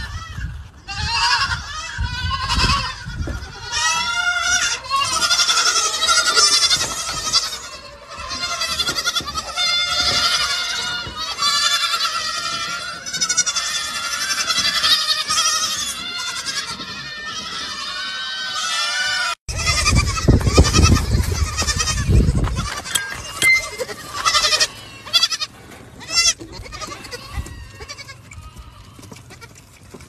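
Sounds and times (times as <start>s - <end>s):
goat kids bleating: 0.0s - 30.0s.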